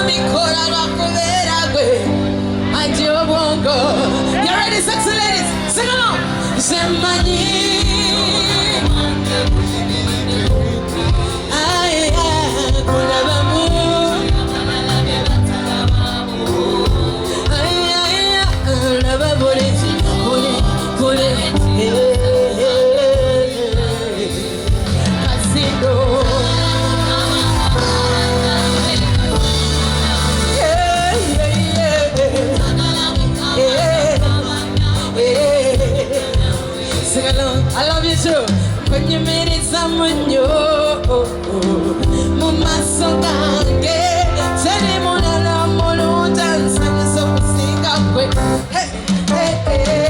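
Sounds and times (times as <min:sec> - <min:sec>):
live band music: 0:00.0 - 0:50.0
person singing: 0:00.0 - 0:50.0.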